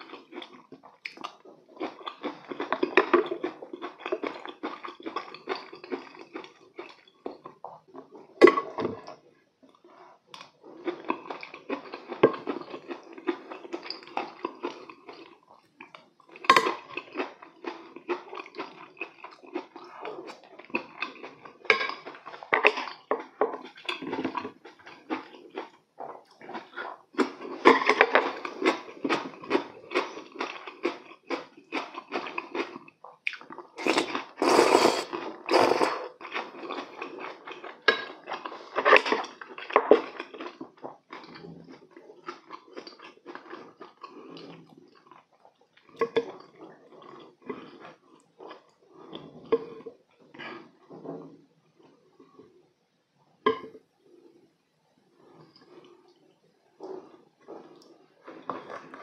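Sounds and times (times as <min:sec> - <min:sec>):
crackly chewing: 0:00.0 - 0:52.6, 0:55.2 - 0:59.0.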